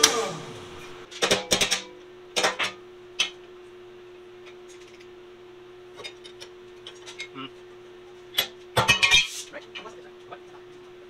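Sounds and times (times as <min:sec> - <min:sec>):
steady shop hum: 0:00.0 - 0:11.0.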